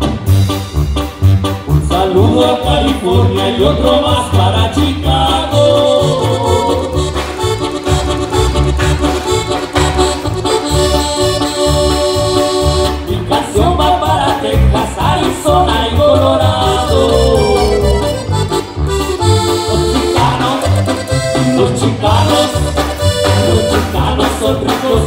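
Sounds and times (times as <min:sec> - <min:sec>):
accordion melody: 0:00.0 - 0:25.0
steady bass beat: 0:00.0 - 0:25.0.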